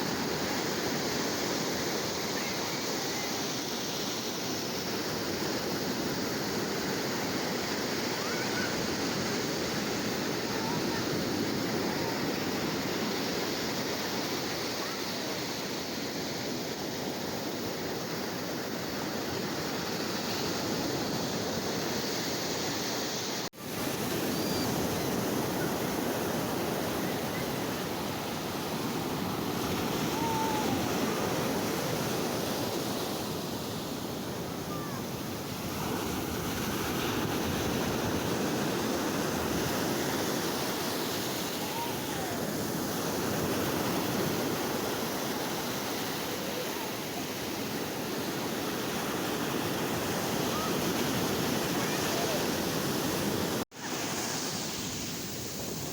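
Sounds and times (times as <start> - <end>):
sea waves surf: 0.0 - 55.9.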